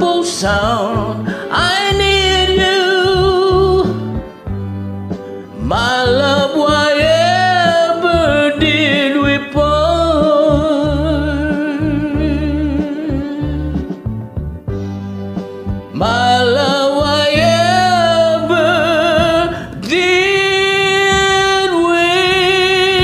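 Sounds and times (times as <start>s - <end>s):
person singing with vibrato: 0.0s - 14.1s, 15.9s - 23.0s
backing track with bass: 0.0s - 23.0s.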